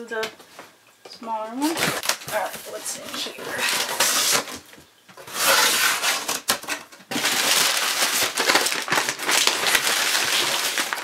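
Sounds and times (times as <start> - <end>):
packing paper rustling: 1.6 - 11.0.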